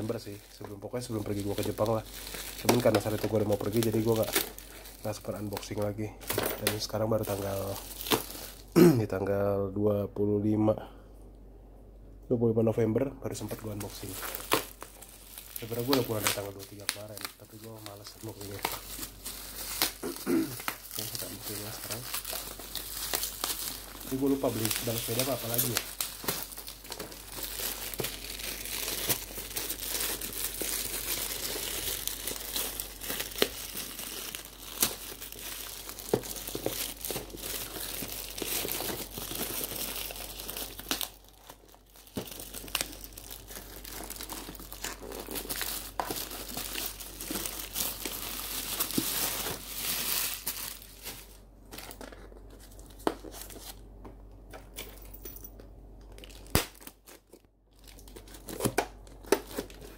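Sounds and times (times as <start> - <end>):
plastic bag crinkling and tearing: 0.0 - 8.8, 13.3 - 53.8, 56.1 - 59.9.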